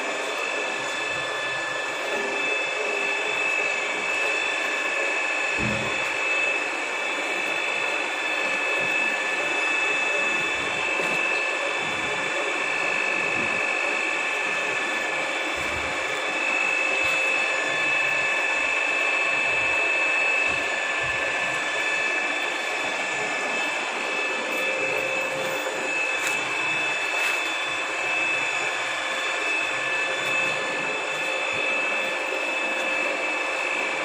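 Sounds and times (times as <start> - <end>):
drill machine running with whine: 0.0 - 34.0.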